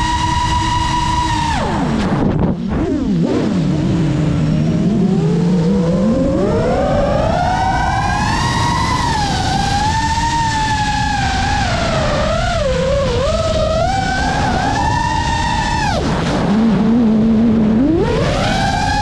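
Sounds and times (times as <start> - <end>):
drone motors whining: 0.0 - 19.0
propeller and wind rumble: 0.0 - 19.0.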